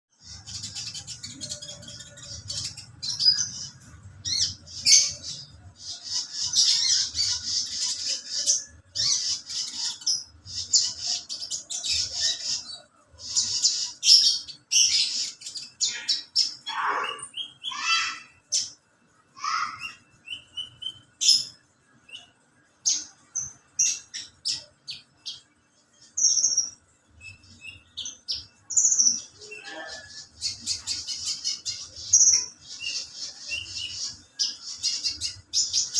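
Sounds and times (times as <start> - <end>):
bird chirping and trilling: 0.1 - 35.9.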